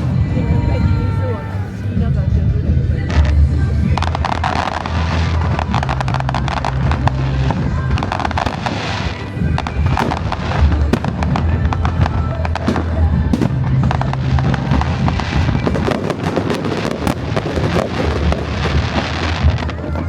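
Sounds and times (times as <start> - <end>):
fireworks bursting and crackling: 0.0 - 20.0
music with deep bass: 0.0 - 20.0.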